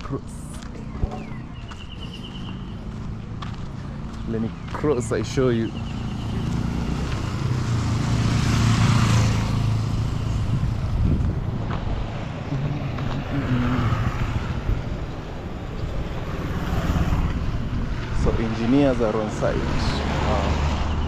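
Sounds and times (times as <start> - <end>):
quieter vehicle running: 0.0 - 21.0
vehicle passing close: 1.9 - 21.0.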